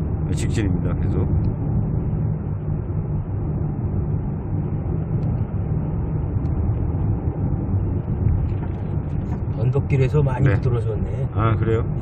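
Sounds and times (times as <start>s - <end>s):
in-cabin engine and tyre rumble: 0.0s - 12.0s.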